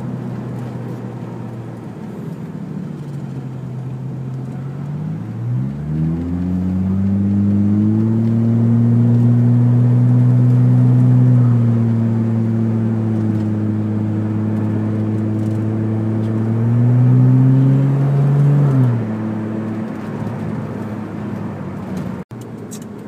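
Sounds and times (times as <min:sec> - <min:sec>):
car engine humming in cabin: 0:00.0 - 0:23.0.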